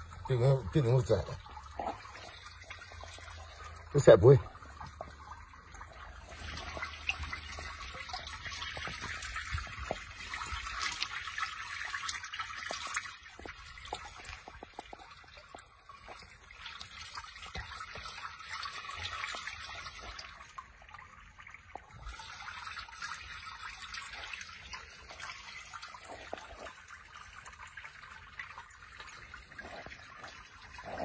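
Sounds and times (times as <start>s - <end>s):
water trickling and dripping: 0.0s - 31.0s.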